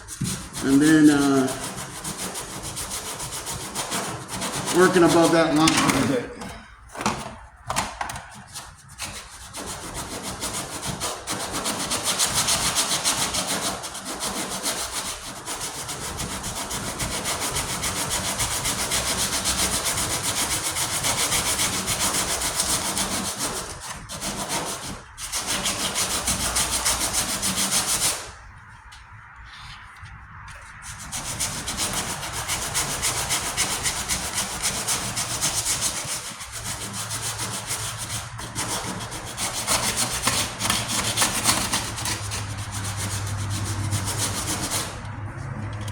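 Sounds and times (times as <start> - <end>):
sandpaper scraping metal: 0.0 - 6.4, 8.3 - 45.9.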